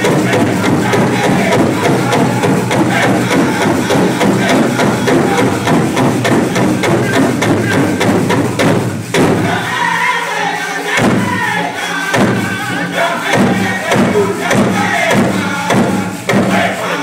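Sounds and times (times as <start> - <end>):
heavy big drum beats: 0.0 - 9.9, 11.0 - 17.0
high wavering group singing: 0.0 - 17.0.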